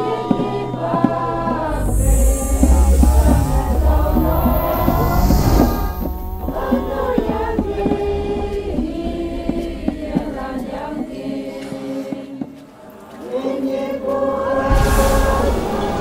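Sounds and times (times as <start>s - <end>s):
choir-like chanting music: 0.0s - 16.0s.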